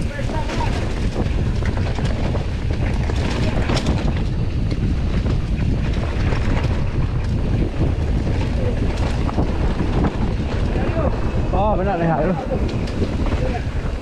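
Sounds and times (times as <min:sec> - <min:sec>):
bike rattles and knocks: 0:00.0 - 0:14.0
bike tyres rumbling on dirt: 0:00.0 - 0:14.0
wind buffeting microphone: 0:00.0 - 0:14.0.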